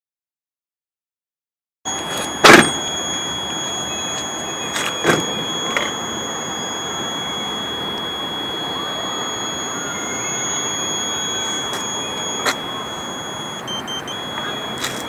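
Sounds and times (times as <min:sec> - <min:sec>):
thin high-pitched whine: 0:01.9 - 0:15.0.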